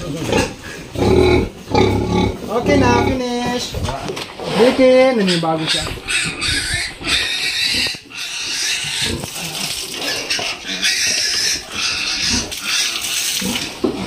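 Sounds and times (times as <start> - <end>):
pigs grunting: 0.0 - 3.6, 4.4 - 14.0
pigs squealing: 0.2 - 3.5, 4.8 - 14.0.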